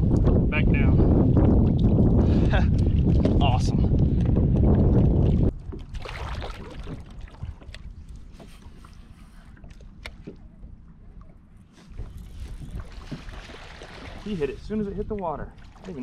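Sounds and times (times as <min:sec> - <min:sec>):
wind buffeting microphone: 0:00.0 - 0:08.8, 0:11.8 - 0:16.0
light water sounds: 0:01.3 - 0:16.0.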